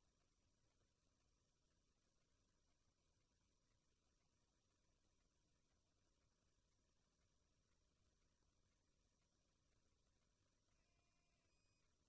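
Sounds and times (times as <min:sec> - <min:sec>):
faint electronic hiss: 0:00.0 - 0:12.0.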